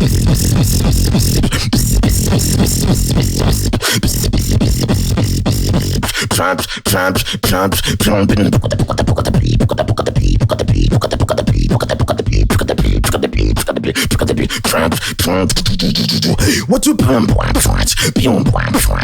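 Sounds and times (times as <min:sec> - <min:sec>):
warbling pitched vocal sounds: 0:00.0 - 0:06.6, 0:07.5 - 0:19.0
beatboxing clicks and snares: 0:00.0 - 0:19.0
deep continuous vocal bass: 0:00.0 - 0:19.0.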